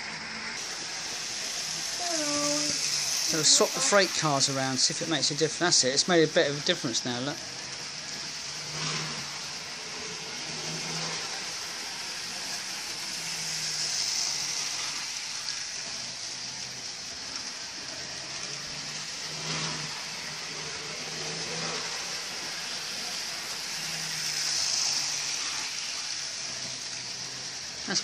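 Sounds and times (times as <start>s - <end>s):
model train motor whirring: 0.0s - 28.0s.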